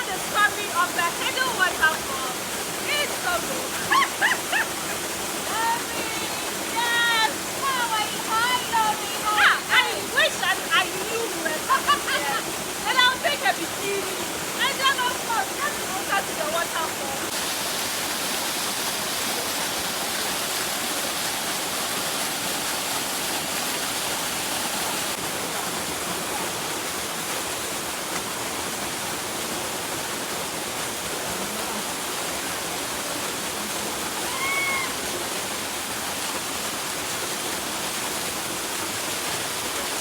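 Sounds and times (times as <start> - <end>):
small waterfall splashing: 0.0 - 40.0.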